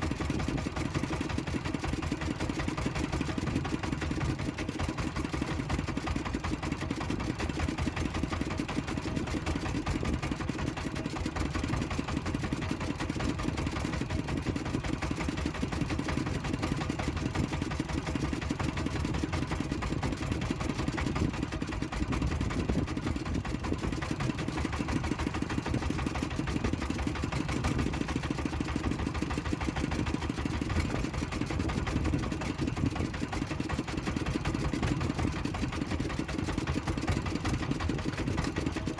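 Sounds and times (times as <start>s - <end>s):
boat engine chugging: 0.0s - 38.9s.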